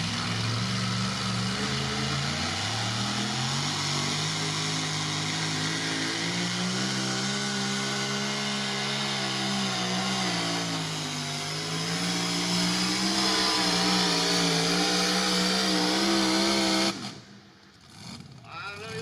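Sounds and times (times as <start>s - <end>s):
diesel truck engine revving: 0.0s - 19.0s.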